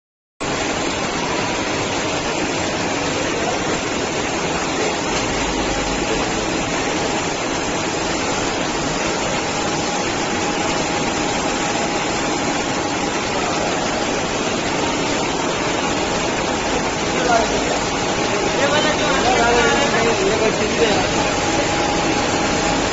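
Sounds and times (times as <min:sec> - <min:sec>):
production line running: 0:00.4 - 0:22.9.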